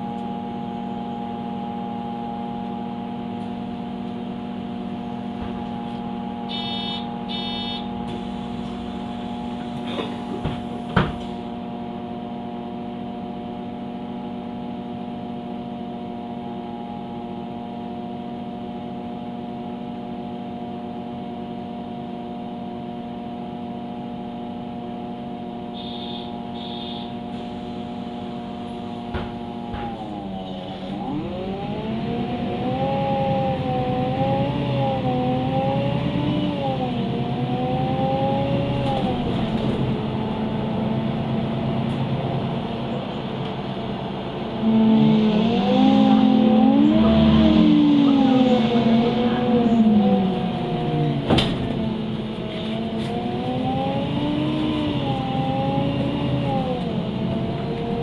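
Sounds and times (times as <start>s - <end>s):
bus engine: 0.0s - 58.0s.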